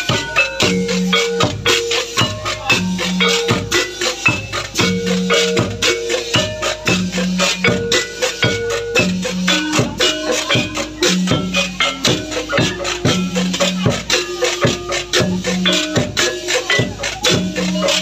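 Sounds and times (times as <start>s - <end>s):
large bass drum: 0.0s - 18.0s
rattling percussion: 0.0s - 18.0s
wooden xylophones: 0.0s - 18.0s.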